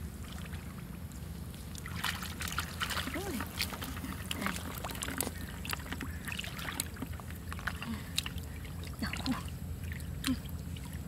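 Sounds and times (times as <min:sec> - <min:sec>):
steady low rumble: 0:00.0 - 0:11.0
wet squelches of mud: 0:00.2 - 0:11.0
hands splashing in muddy water: 0:01.7 - 0:11.0.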